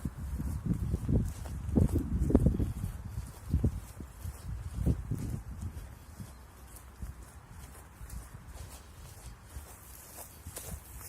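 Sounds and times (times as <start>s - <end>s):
footsteps walking: 0.0s - 11.0s
wind buffeting microphone: 0.0s - 11.0s.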